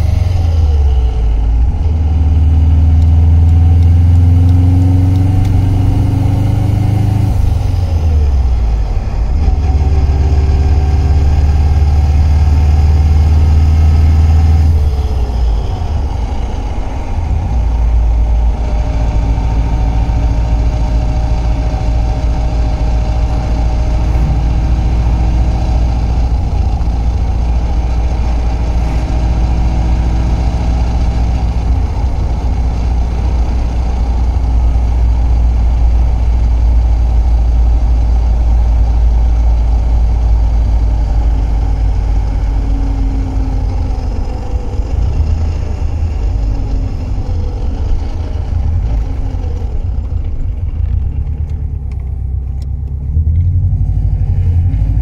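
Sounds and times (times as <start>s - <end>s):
low engine hum: 0.0s - 55.0s
steady whine: 0.0s - 55.0s.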